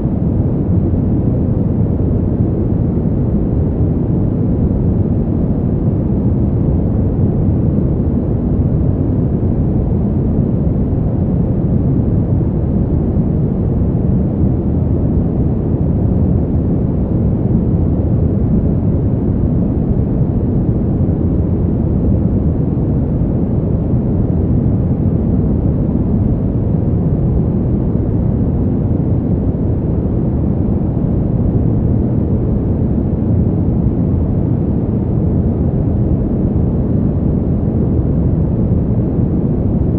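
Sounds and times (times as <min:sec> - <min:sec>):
steady wind noise: 0:00.0 - 0:39.9.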